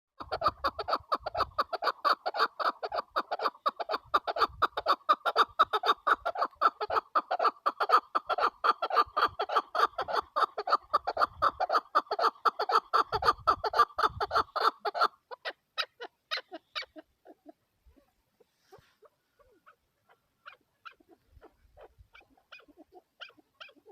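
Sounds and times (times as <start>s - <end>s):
partridge calling: 0.2s - 23.9s.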